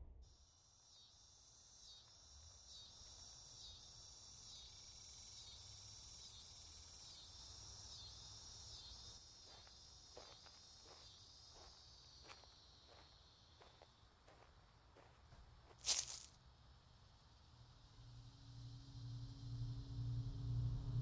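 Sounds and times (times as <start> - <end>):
crickets trilling: 0.4 - 19.5.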